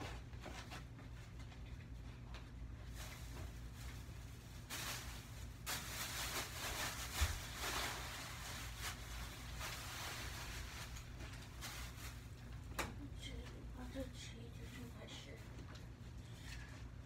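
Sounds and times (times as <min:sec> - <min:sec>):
low steady hum: 0:00.0 - 0:17.0
rustling and shuffling: 0:00.0 - 0:17.0.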